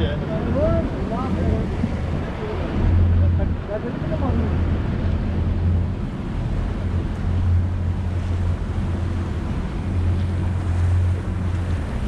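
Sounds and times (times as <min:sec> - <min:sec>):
boat engine running: 0:00.0 - 0:12.0
water washing along hull: 0:00.0 - 0:12.0
wind buffeting microphone: 0:00.0 - 0:12.0.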